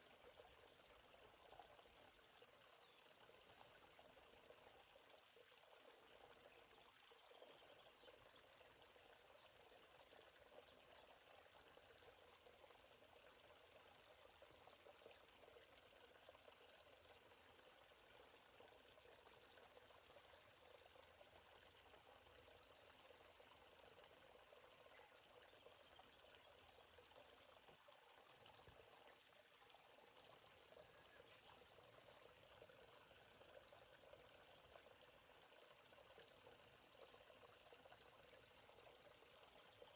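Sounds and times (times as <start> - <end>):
high-pitched insect chorus: 6.4 - 39.9.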